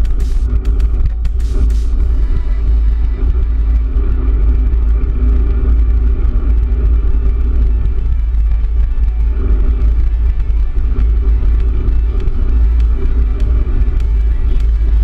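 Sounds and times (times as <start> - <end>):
tyre noise on asphalt: 0.0 - 15.0
wind buffeting microphone: 0.0 - 15.0.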